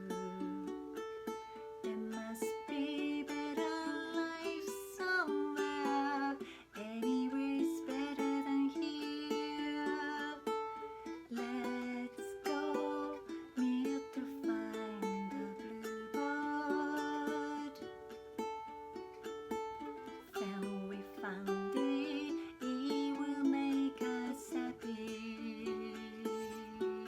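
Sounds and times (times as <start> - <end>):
ukulele strummed: 0.0 - 27.0.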